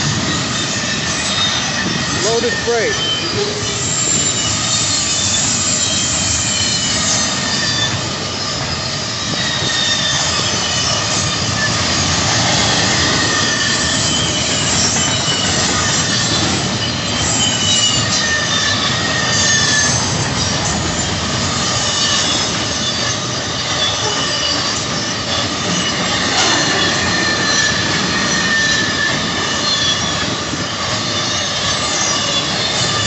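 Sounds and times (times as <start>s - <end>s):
freight train wheels rumbling: 0.0s - 33.0s
high-pitched wheel squeals: 0.0s - 33.0s.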